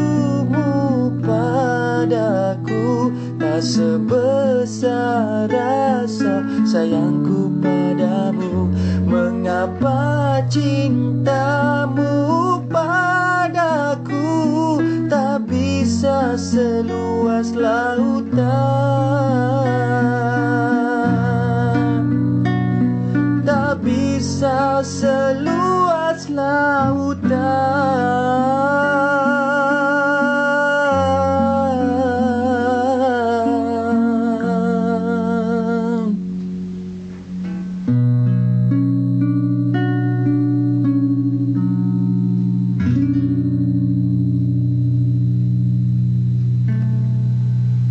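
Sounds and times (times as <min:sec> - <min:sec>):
person singing: 0:00.0 - 0:36.4, 0:38.6 - 0:45.4
acoustic guitar: 0:00.0 - 0:47.9.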